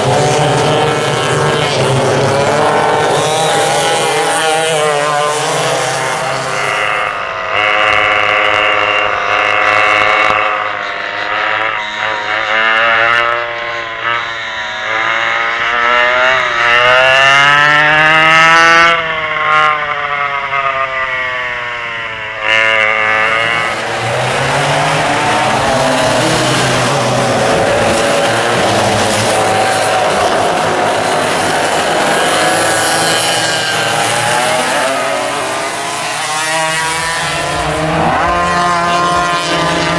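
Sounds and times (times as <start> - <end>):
two-stroke kart engines revving: 0.0 - 39.9.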